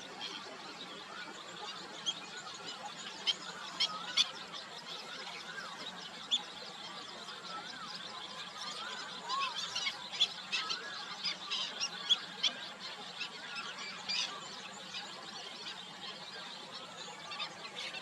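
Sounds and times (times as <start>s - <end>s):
birds chirping: 0.0s - 18.0s
whistled bird calls: 0.2s - 18.0s.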